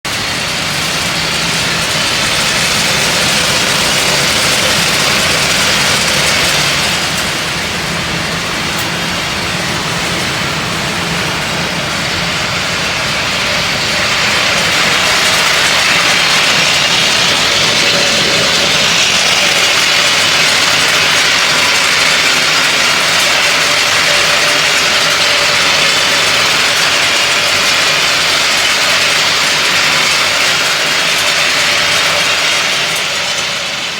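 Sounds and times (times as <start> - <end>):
loud machinery with hiss: 0.1 - 33.9.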